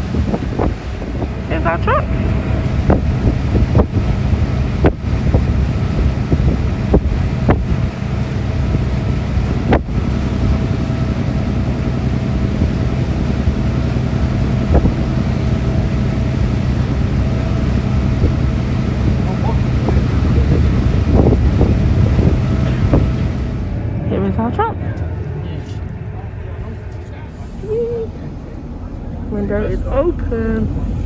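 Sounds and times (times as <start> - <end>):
engine running: 0.0 - 31.0
wind buffeting microphone: 0.0 - 31.0.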